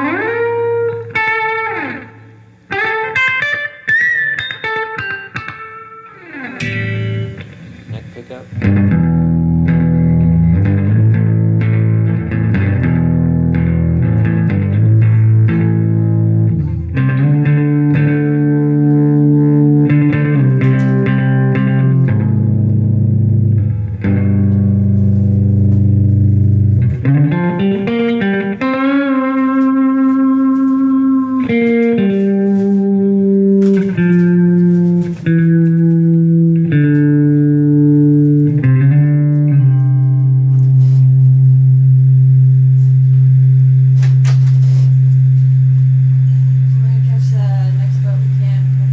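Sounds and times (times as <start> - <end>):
clean electric guitar: 0.0 - 48.9.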